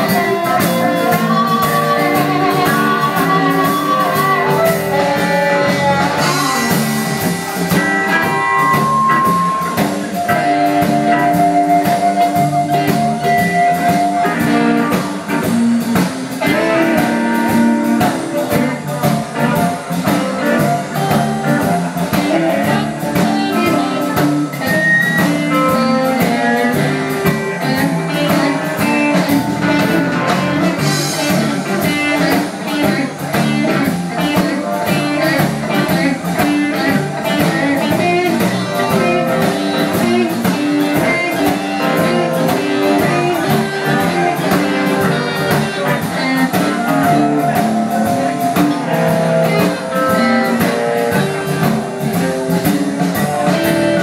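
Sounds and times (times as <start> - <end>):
guitar lines: 0.0 - 54.0
live blues band playing: 0.0 - 54.0.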